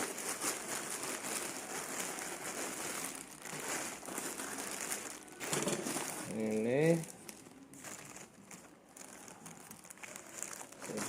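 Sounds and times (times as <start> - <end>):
parcel wrapping crinkling: 0.0 - 11.0.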